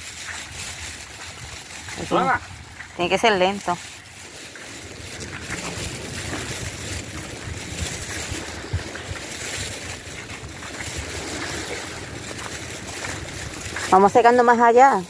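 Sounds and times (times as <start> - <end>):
surf on the shore: 0.0 - 15.0
wind buffeting microphone: 0.0 - 15.0.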